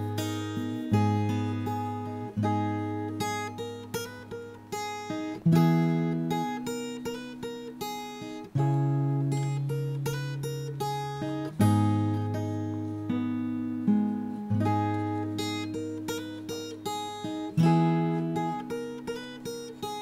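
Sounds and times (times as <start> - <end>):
plucked acoustic guitar music: 0.0 - 20.0.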